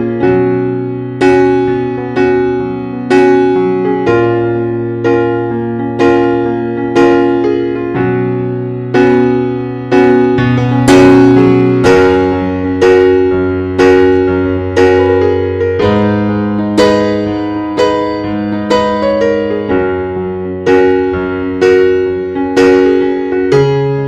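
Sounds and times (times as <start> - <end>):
slow piano tune: 0.0 - 24.0.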